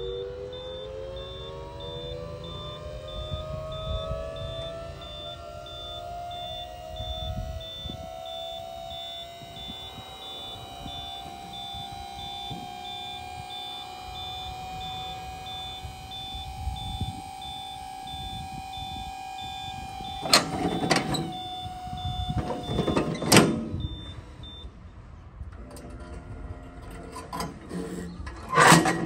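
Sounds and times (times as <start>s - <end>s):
high electronic beep: 0.0s - 24.7s
hydraulic unit hum: 0.0s - 29.0s.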